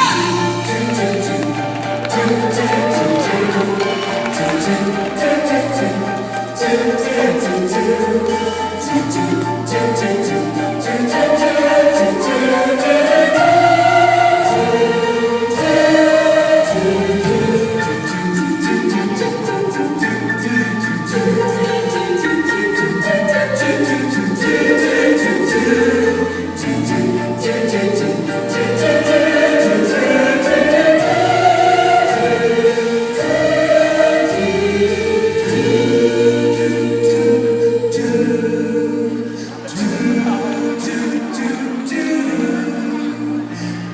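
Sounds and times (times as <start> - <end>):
choir singing: 0.0 - 43.9.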